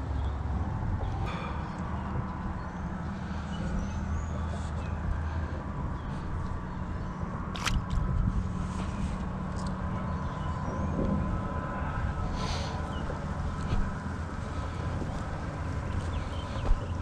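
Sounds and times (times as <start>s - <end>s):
distant road traffic: 0.0s - 17.0s
wind: 0.0s - 17.0s.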